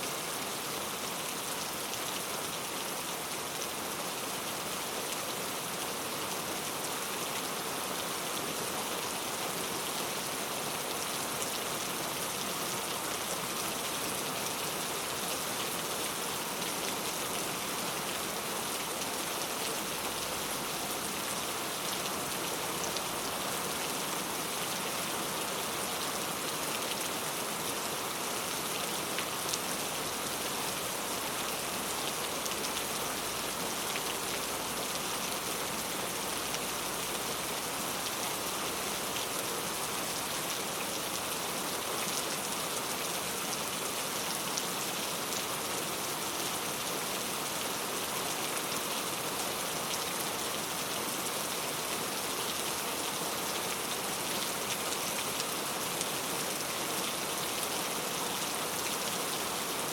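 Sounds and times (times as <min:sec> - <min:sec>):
heavy rain on leaves: 0:00.0 - 0:59.9.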